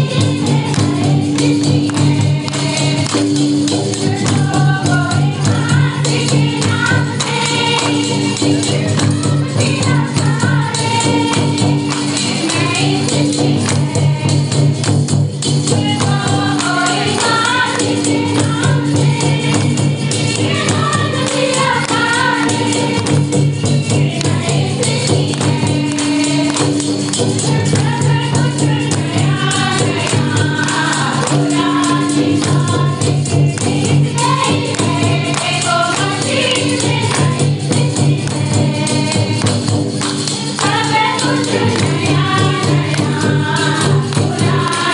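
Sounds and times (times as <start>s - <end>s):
hand drums beating: 0.0s - 44.9s
women singing in chorus: 0.0s - 44.9s.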